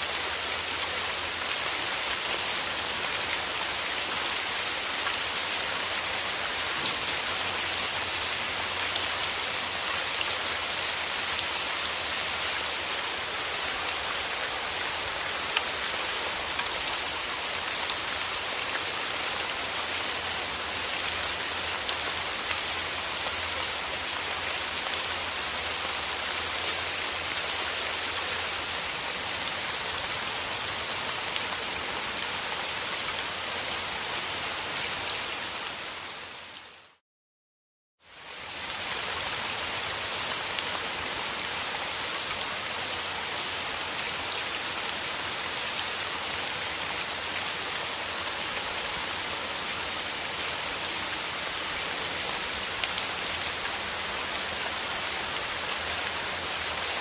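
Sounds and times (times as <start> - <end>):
steady rain falling: 0.0 - 37.0, 38.0 - 57.0.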